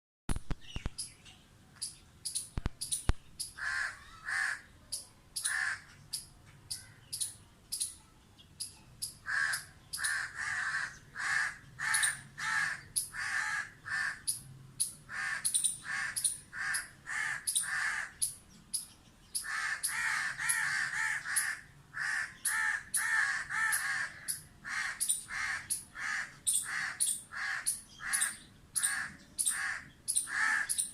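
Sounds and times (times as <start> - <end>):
birds calling: 0.3 - 30.9.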